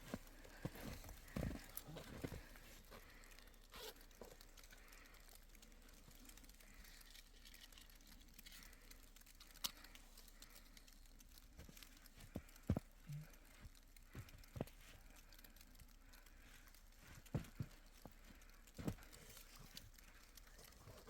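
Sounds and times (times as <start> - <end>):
faint rustling: 0.0 - 21.0.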